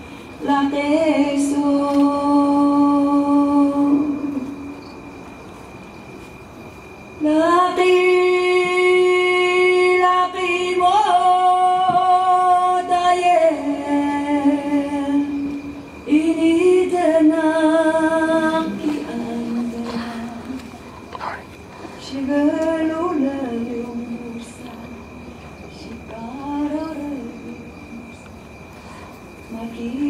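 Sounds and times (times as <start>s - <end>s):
faint high whine: 0.0s - 30.0s.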